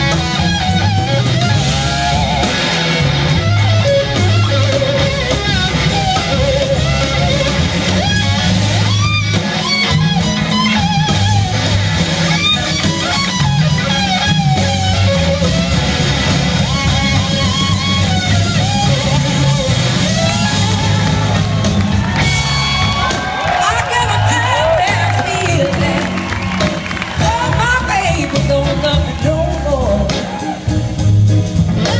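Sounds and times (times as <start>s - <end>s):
bass and drums: 0.0s - 31.9s
electric guitar lead: 0.0s - 31.9s.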